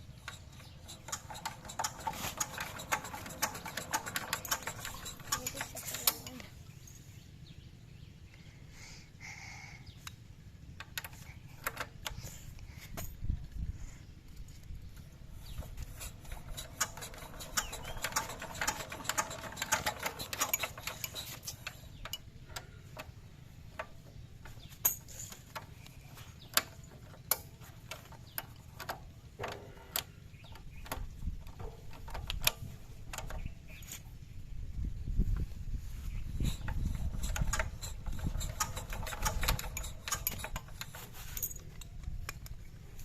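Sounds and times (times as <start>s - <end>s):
clicks and rattles: 0.0s - 6.6s, 10.8s - 13.2s, 14.3s - 34.1s, 36.1s - 43.0s.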